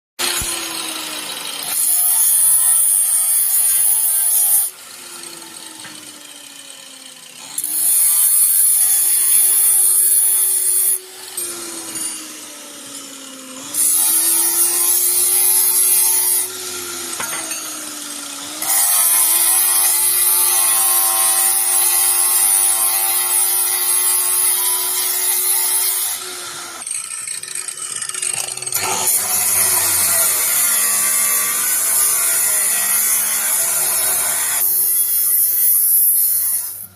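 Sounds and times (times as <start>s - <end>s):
motorised cutting saw grinding: 0.2s - 36.9s.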